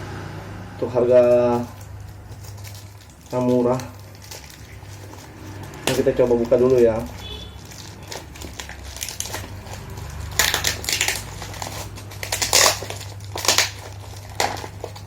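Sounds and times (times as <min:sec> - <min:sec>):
packaging rustling and crinkling: 0:00.9 - 0:15.0.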